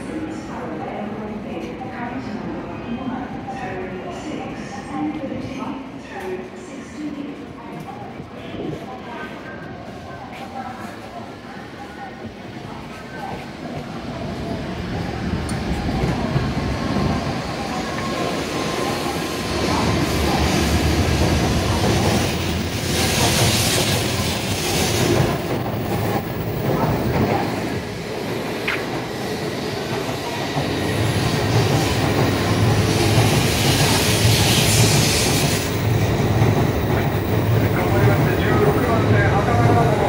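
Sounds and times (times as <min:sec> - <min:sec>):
train running past: 0:02.2 - 0:40.0.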